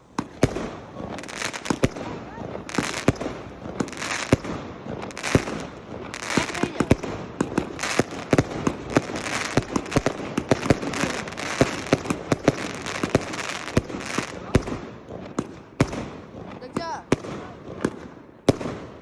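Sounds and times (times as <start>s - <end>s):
hissing crackling bursts: 0.0s - 17.2s
fireworks bangs: 0.0s - 19.0s.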